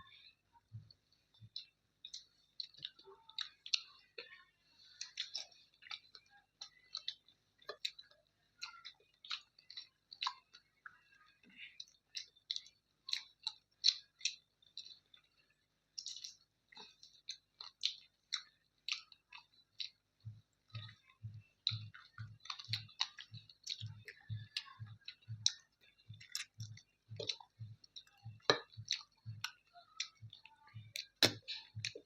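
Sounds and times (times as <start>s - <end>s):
wet chewing and lip-smacking: 0.1s - 32.0s.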